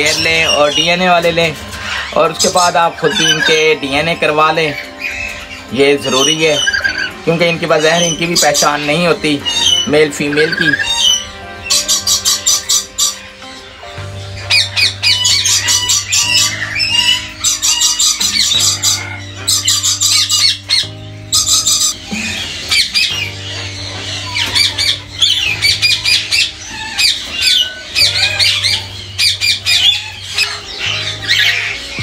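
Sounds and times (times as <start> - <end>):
background music of low chords: 0.0 - 32.0
lories screeching: 0.0 - 32.0.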